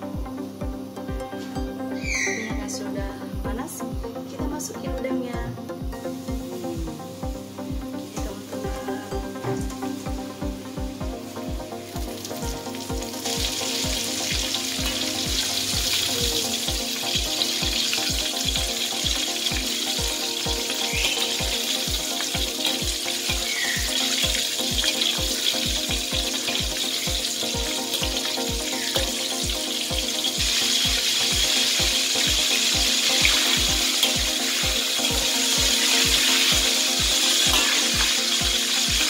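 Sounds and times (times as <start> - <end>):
music with steady beat: 0.0 - 39.0
shrimp deep-frying in oil: 0.3 - 2.8, 6.2 - 39.0.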